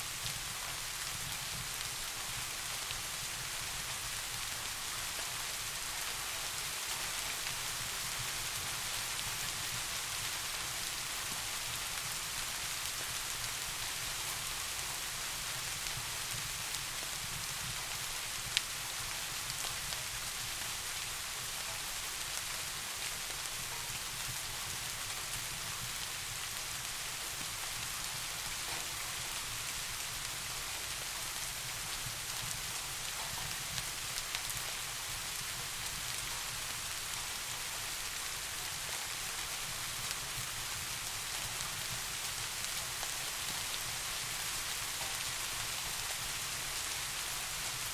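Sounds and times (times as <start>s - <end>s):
steady rain hissing: 0.0s - 47.9s.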